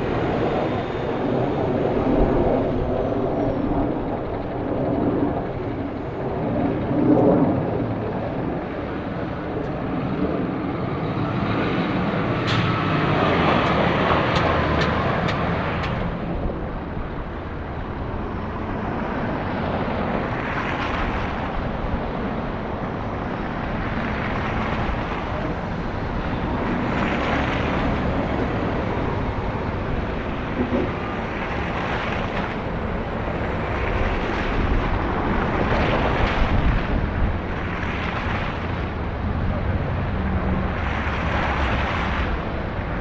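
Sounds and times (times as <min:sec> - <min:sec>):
street traffic rumble: 0:00.0 - 0:43.0.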